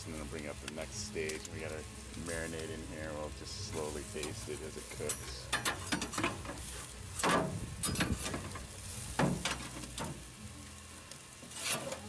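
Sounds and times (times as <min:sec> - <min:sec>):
metal utensil scraping grill grate: 0:00.0 - 0:10.4, 0:11.1 - 0:12.0.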